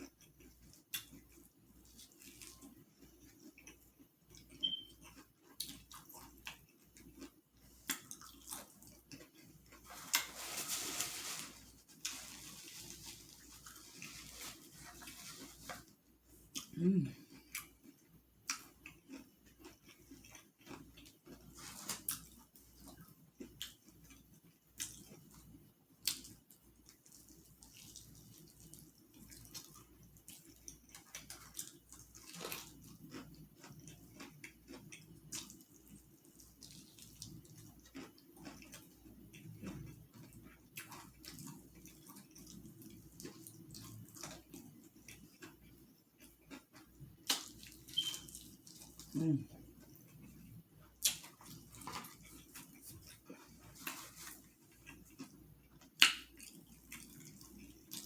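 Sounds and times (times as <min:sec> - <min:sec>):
person chewing and lip smacking: 0:00.0 - 0:10.3, 0:15.8 - 0:58.0.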